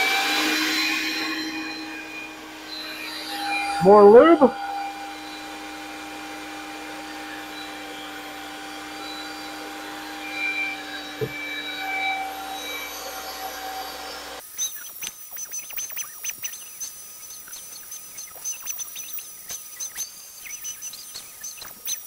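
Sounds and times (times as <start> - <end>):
electric drill whining: 0.0 - 22.0
high wavering chirp: 0.0 - 22.0.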